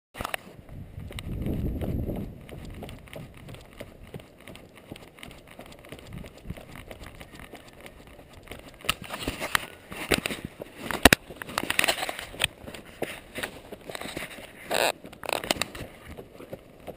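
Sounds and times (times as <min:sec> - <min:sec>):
running footsteps on gravel: 0:00.2 - 0:16.9.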